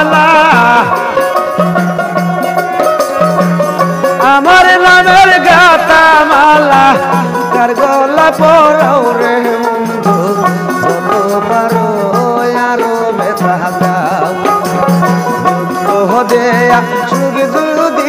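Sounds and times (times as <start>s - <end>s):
man singing: 0.0s - 1.9s, 4.0s - 18.0s
hand percussion: 0.0s - 18.0s
harmonium drone: 0.0s - 18.0s
plucked lute: 0.0s - 18.0s.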